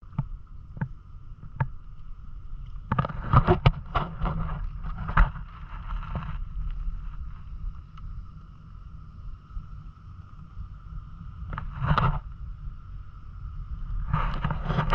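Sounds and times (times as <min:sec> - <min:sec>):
low rumble with hum: 0:00.0 - 0:14.9.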